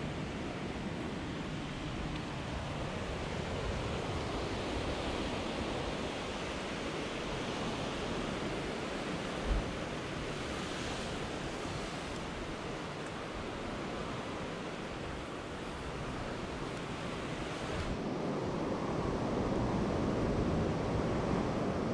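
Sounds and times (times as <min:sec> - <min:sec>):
wind on microphone: 0:00.0 - 0:21.9.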